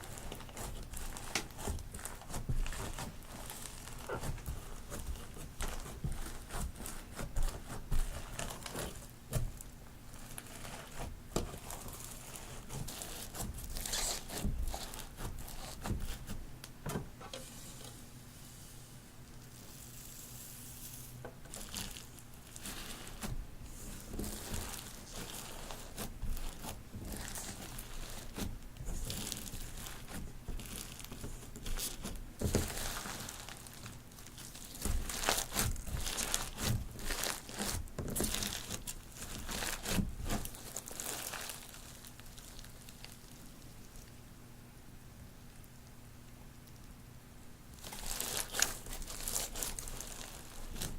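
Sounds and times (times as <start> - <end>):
slime crunching and crackling: 0.0 - 16.4, 19.4 - 44.2, 47.7 - 50.9.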